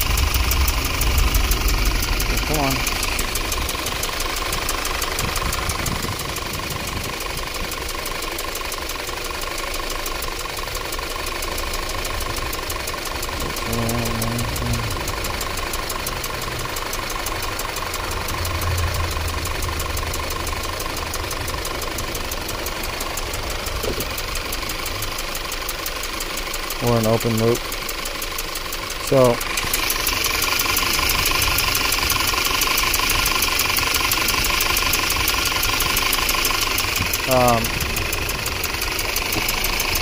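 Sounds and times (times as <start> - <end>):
car engine idling rough: 0.0 - 40.0.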